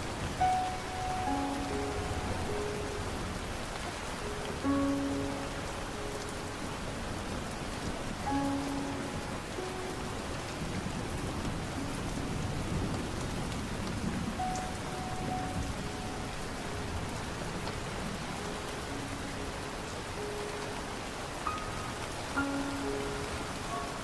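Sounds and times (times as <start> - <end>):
soft long-held music notes: 0.0 - 24.0
steady rain falling: 0.0 - 24.0.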